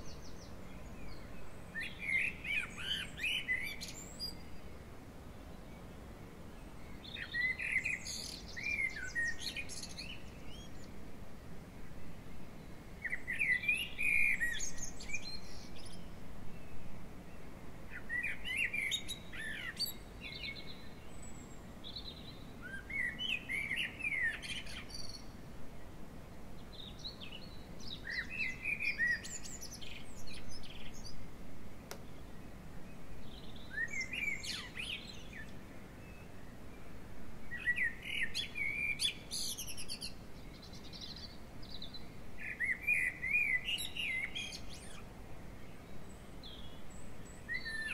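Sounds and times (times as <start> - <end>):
songbird chirps and trills: 0.0 - 47.9.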